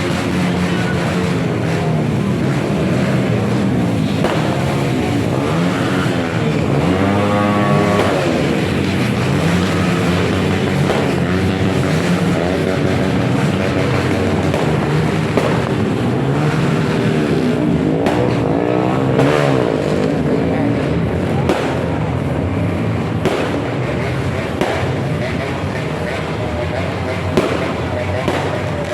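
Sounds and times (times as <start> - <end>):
sharp bangs: 0.0 - 28.9
vehicle engines revving: 0.0 - 28.9.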